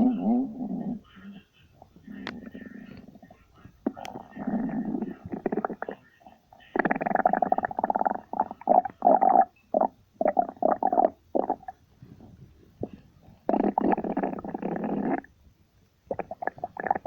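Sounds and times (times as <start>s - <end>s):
stomach growling: 0.0s - 15.3s, 16.1s - 17.0s.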